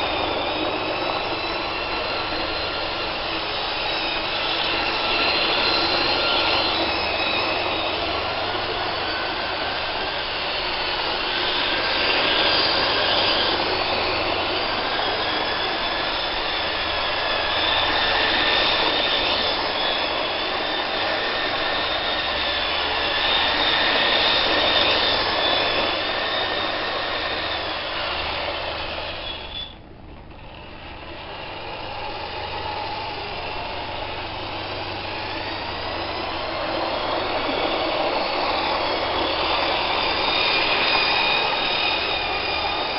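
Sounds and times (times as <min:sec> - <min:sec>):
electric motor whine: 0:00.0 - 0:42.9
model train wheels rumbling: 0:00.0 - 0:42.9.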